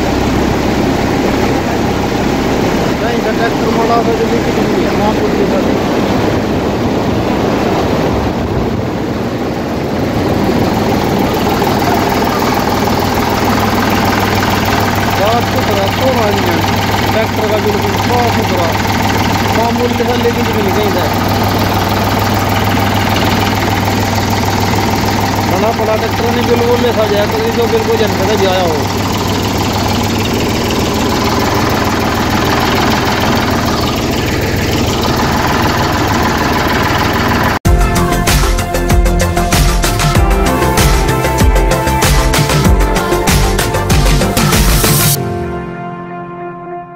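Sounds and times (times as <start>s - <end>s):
tractor diesel engine idling: 0.0s - 5.8s, 9.1s - 45.2s.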